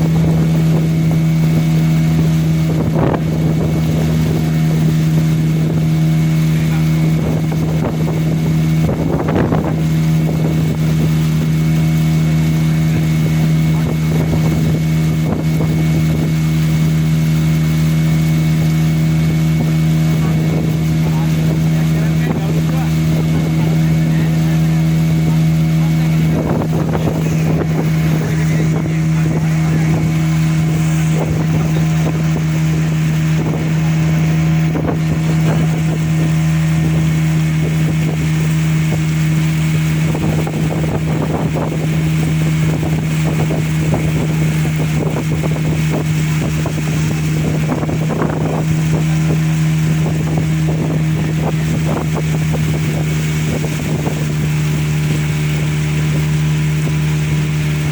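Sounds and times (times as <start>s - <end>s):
motorboat engine humming: 0.0s - 57.9s.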